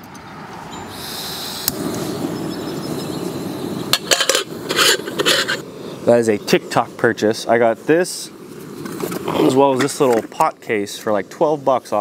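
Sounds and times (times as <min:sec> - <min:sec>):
gas stove hissing: 0:00.8 - 0:12.0.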